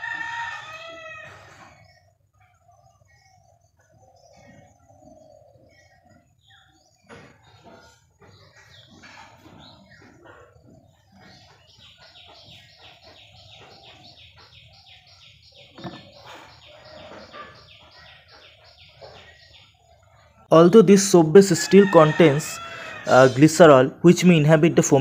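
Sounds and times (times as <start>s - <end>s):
birds chirping faintly: 0.0s - 25.0s.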